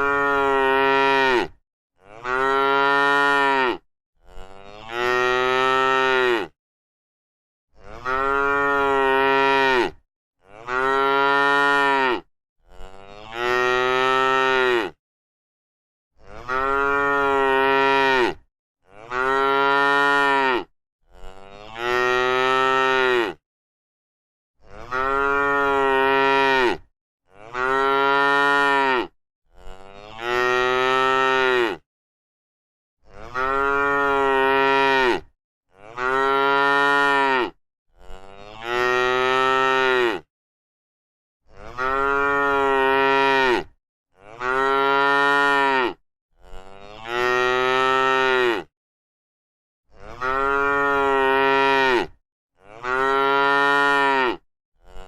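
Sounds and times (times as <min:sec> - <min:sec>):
cow mooing: 0:00.0 - 0:06.6, 0:07.8 - 0:15.0, 0:16.2 - 0:23.4, 0:24.6 - 0:31.8, 0:33.1 - 0:40.3, 0:41.6 - 0:48.7, 0:50.1 - 0:55.0.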